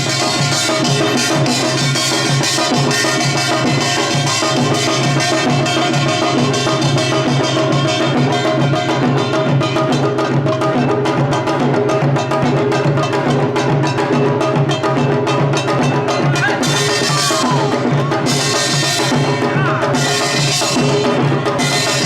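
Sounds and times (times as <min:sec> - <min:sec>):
drum strokes: 0:00.0 - 0:22.0.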